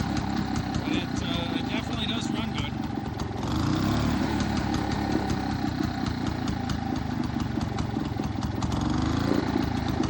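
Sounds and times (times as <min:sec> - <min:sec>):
rototiller engine running: 0:00.0 - 0:10.0.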